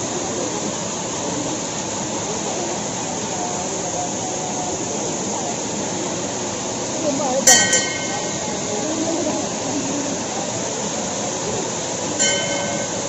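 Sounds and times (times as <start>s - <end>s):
waterfall splashing into pool: 0.0s - 13.0s.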